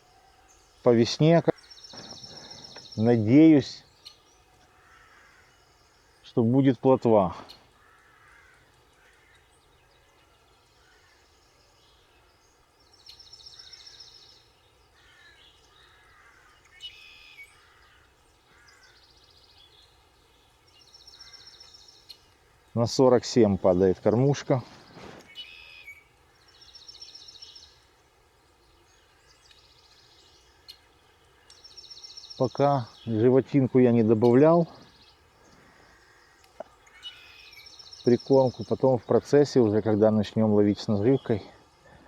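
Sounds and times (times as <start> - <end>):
distant bird calls: 0.0 - 42.0
faint songbird trill: 0.0 - 42.0.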